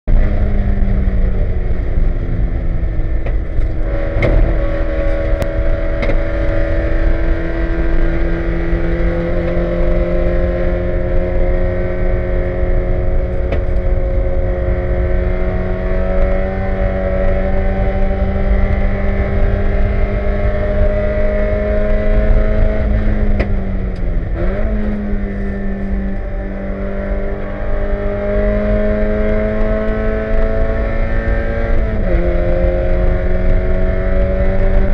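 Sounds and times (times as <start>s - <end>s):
car engine running hard: 0.0s - 34.9s.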